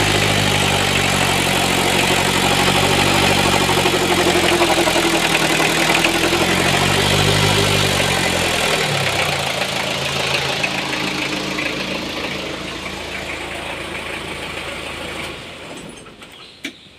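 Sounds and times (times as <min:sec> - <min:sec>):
diesel engine idling: 0:00.0 - 0:16.6.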